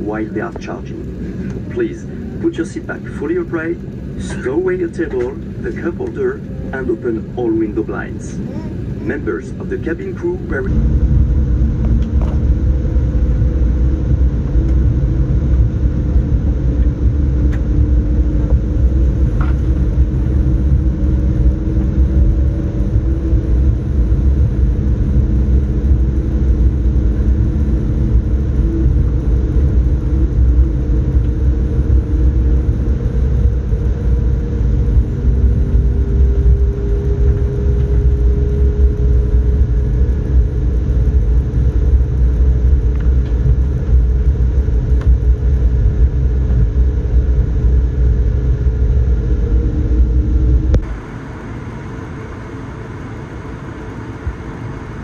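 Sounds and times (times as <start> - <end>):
engine tones: 0.0 - 52.3
aircraft cabin low rumble: 0.0 - 55.0.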